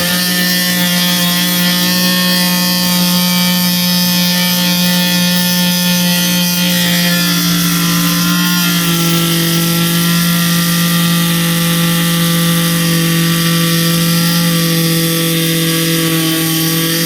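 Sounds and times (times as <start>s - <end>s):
multi-tool cutting metal screw: 0.0s - 17.0s.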